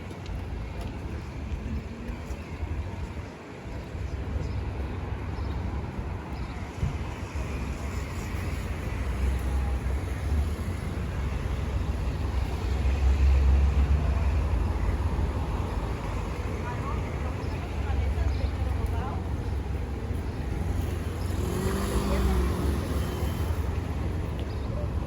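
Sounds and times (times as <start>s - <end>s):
low rumble of passing vehicles: 4.0s - 25.0s.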